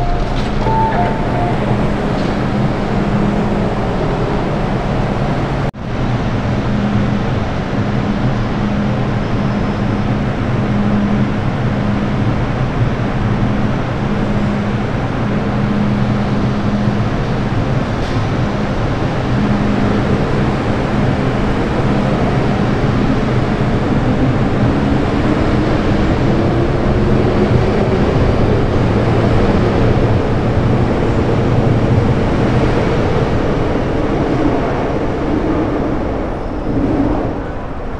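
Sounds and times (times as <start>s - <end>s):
train rolling rumble: 0.0s - 37.9s.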